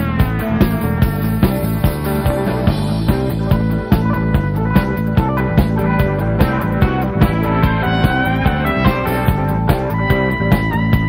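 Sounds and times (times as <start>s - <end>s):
drums keeping steady beat: 0.0s - 11.0s
rock band playing live: 0.0s - 11.0s.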